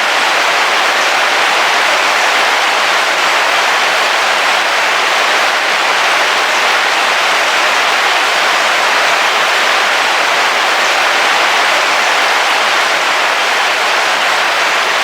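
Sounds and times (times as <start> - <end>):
heavy rain on car roof: 0.0 - 15.0.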